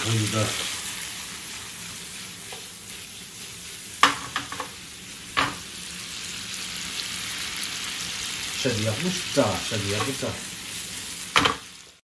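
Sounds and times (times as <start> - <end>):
bacon sizzling in frying pan: 0.0 - 12.0.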